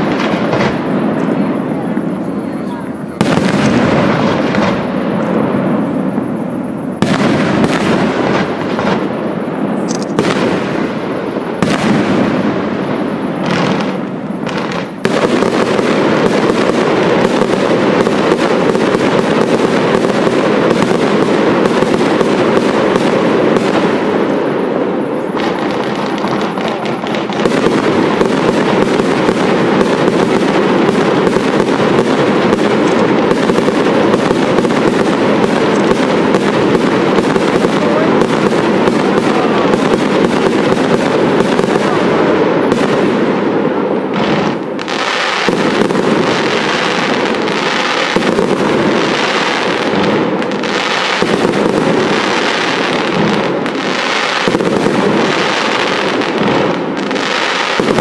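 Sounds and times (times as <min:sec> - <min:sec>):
fireworks barrage of bangs and crackle: 0:00.0 - 0:58.0.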